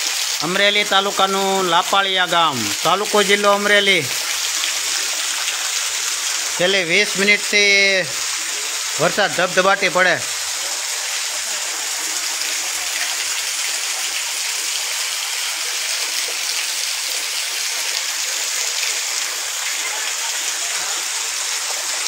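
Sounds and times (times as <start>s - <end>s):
heavy rain pouring: 0.0s - 22.0s
water streaming off roof: 0.0s - 22.0s.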